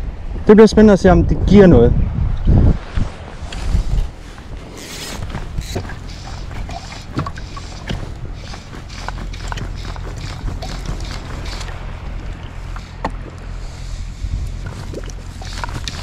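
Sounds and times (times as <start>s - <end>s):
wind rumble on microphone: 0.0s - 16.0s
sea water lapping and splashing: 2.6s - 16.0s.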